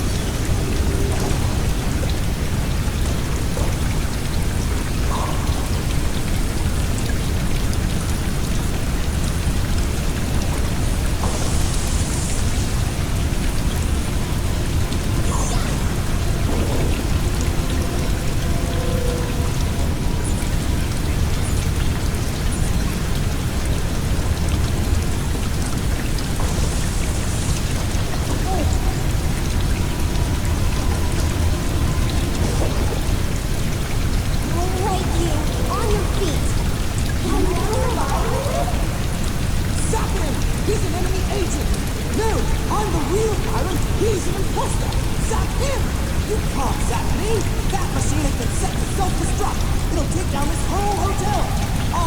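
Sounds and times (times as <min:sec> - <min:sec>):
steady rain: 0:00.0 - 0:52.0.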